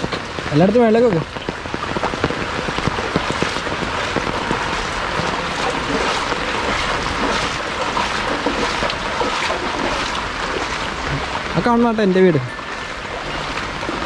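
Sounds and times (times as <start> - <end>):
rain on an umbrella: 0.0 - 14.0
rain on shallow water: 0.0 - 14.0.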